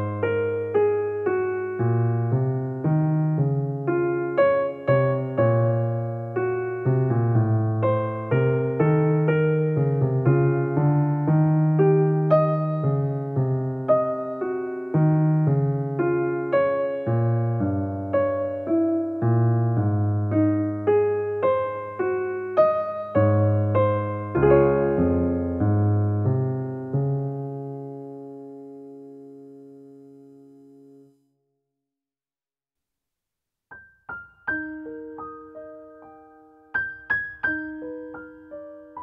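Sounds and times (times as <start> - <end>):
slow piano melody: 0.0 - 31.3, 33.7 - 39.0.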